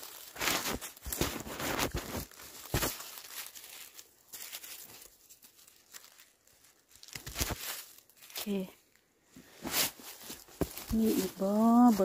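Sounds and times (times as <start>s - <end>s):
dry leaves rustling: 0.0s - 8.7s, 9.7s - 12.0s.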